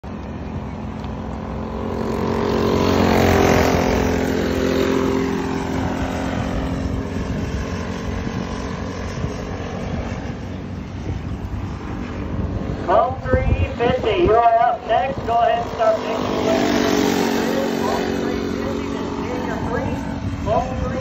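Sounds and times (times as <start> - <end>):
kart engine passing by: 0.1 - 12.9, 14.4 - 20.6.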